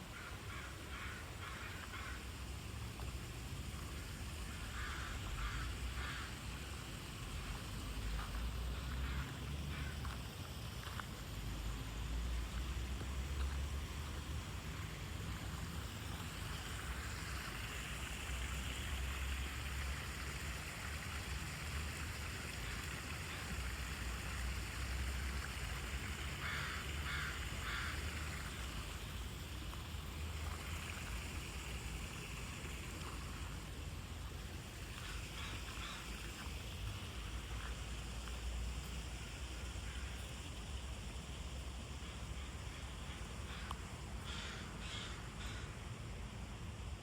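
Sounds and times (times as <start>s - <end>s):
low rumble and hiss: 0.0s - 47.0s.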